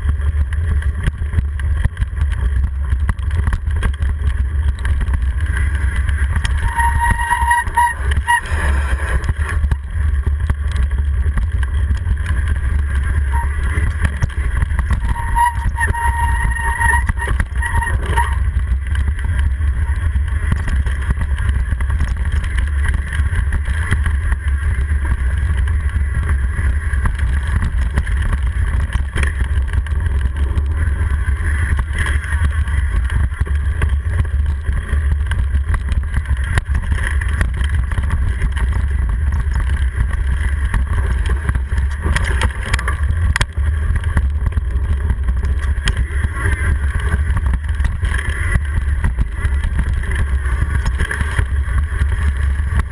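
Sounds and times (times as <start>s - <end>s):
trail vibration rumble: 0.0s - 52.9s
wind rumble: 0.0s - 52.9s.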